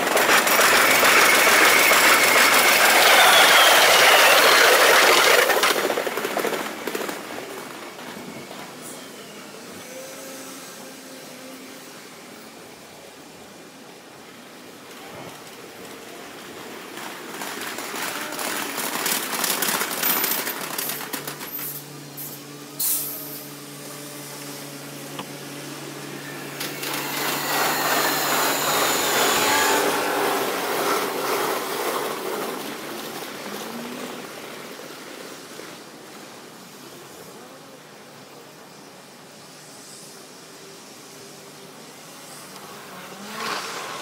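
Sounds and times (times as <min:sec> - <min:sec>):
train rail and wheel noise: 0:00.0 - 0:44.0.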